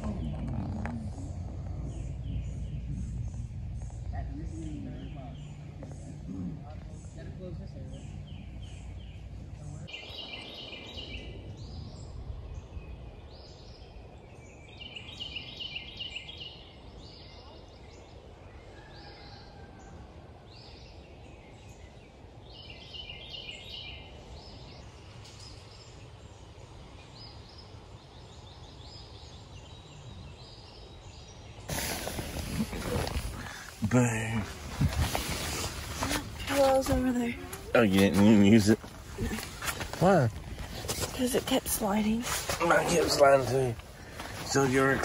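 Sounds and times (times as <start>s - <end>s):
low background noise: 0.0s - 45.0s.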